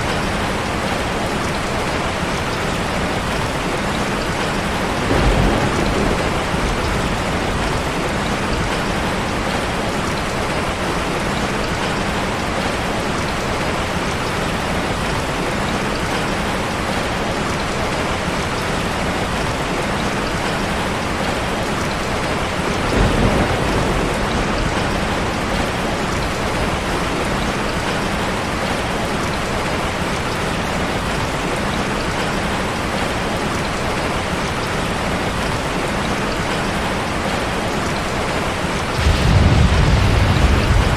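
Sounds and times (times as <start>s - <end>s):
steady dense rain: 0.0s - 40.9s.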